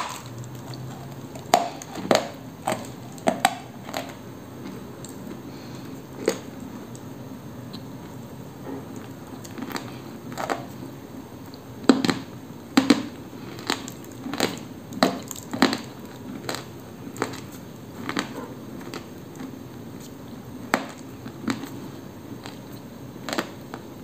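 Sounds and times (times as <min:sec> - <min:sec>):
crisp chewing crunches: 0:00.0 - 0:07.1, 0:08.9 - 0:24.0.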